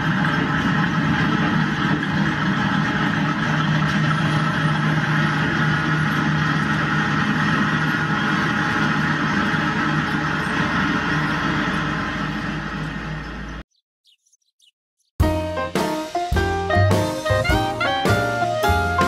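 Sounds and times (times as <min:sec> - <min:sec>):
train running: 0:00.0 - 0:13.6, 0:15.3 - 0:19.0.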